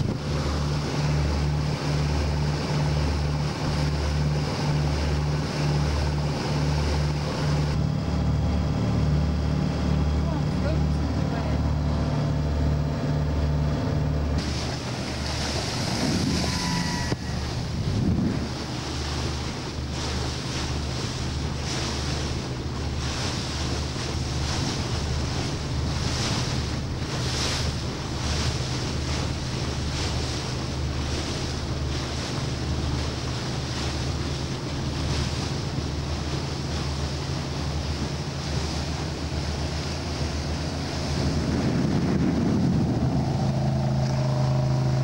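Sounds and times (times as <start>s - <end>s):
wind buffeting microphone: 0.0s - 10.8s, 14.3s - 45.0s
boat engine drone: 0.0s - 45.0s
water rushing along hull: 0.0s - 45.0s.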